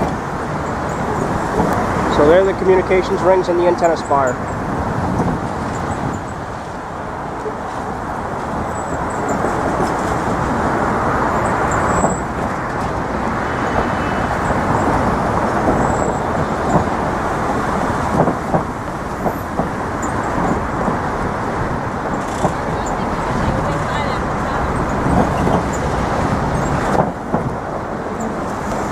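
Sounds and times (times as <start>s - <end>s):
road traffic noise: 0.0s - 28.9s.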